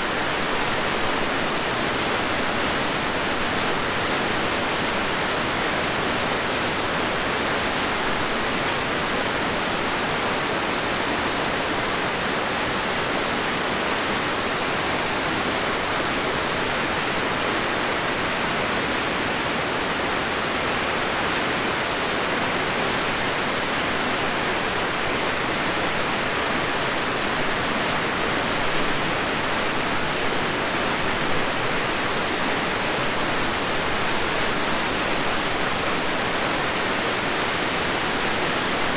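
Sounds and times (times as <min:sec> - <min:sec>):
waterfall cascading over rock: 0:00.0 - 0:38.9.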